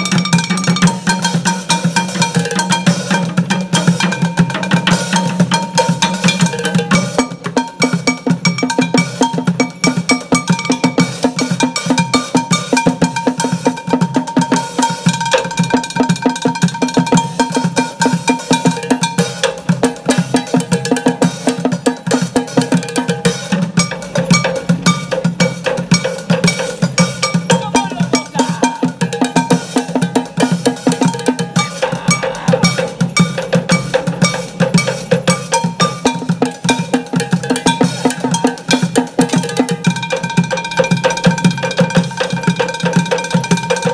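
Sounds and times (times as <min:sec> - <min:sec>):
bucket drumming: 0:00.0 - 0:43.9.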